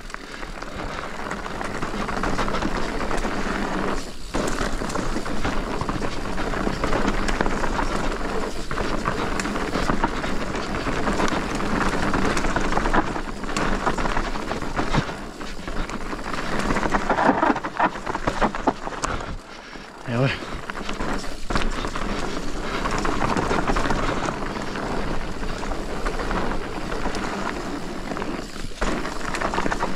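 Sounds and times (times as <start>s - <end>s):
bike knocking and rattling: 0.0s - 29.9s
bike tyres rolling over dirt: 0.0s - 29.9s.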